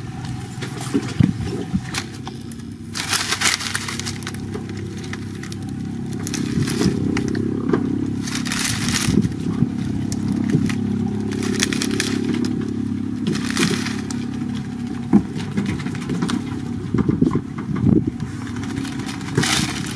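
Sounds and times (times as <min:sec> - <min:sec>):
dry thatch crackling and scraping: 0:00.0 - 0:19.9
steady low hum: 0:00.0 - 0:19.9.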